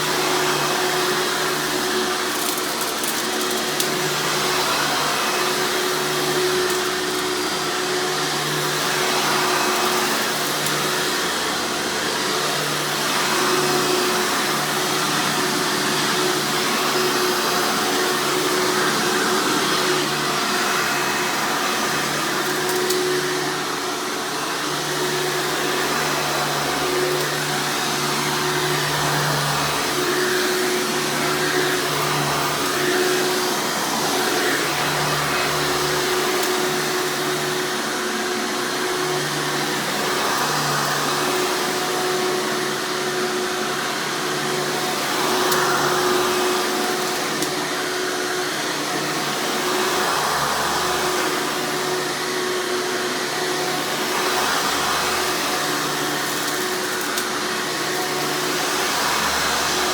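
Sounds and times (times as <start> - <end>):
upright vacuum cleaner running: 0.0 - 59.9.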